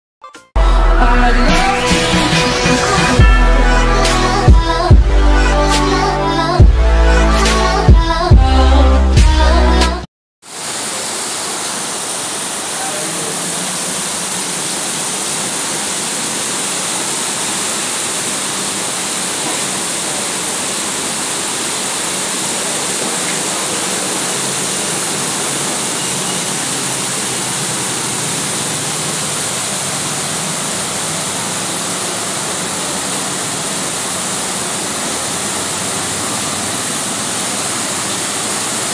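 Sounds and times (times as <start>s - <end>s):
heavy rain pouring: 0.6s - 9.8s, 10.4s - 38.9s.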